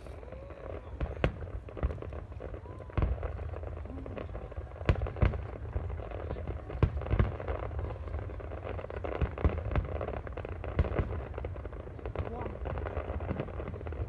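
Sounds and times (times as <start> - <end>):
distant fireworks booming bangs: 0.0 - 14.0
fireworks rumble and crackle: 0.0 - 14.0.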